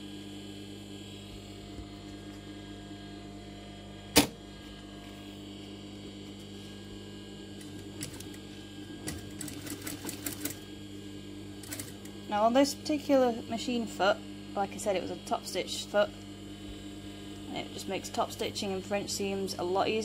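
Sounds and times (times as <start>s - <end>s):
sewing machine motor hum: 0.0s - 19.7s.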